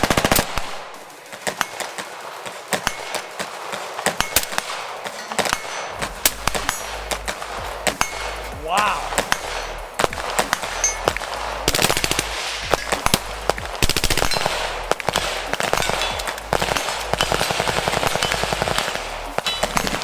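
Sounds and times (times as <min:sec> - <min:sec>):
automatic gunfire bursts: 0:00.0 - 0:08.4, 0:09.2 - 0:20.0.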